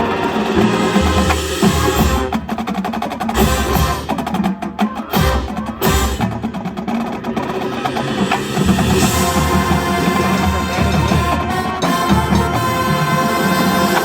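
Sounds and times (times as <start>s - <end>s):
marching band playing: 0.0s - 14.0s
snare drum strokes: 0.0s - 14.0s.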